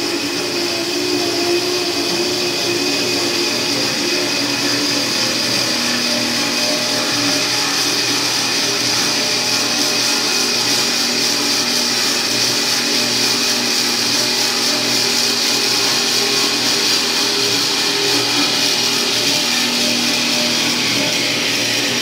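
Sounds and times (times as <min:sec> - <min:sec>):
metal band saw running: 0:00.0 - 0:22.0.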